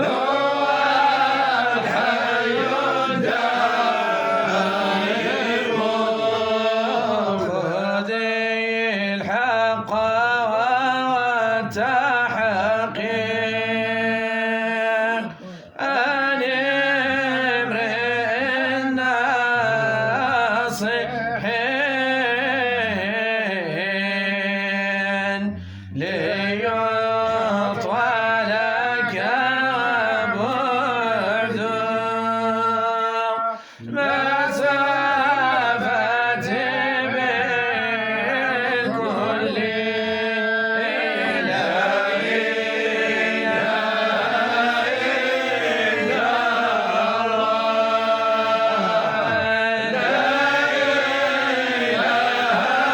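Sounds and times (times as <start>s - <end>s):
man chanting: 0.0s - 52.9s.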